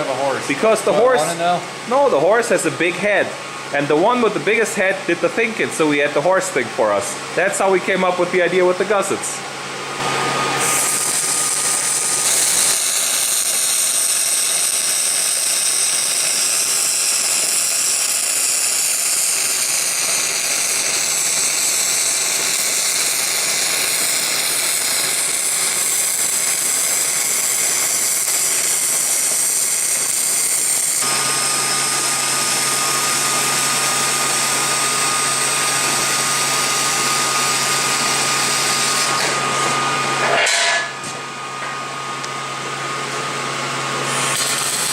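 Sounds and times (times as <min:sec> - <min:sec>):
power tool running: 0:00.0 - 0:44.9.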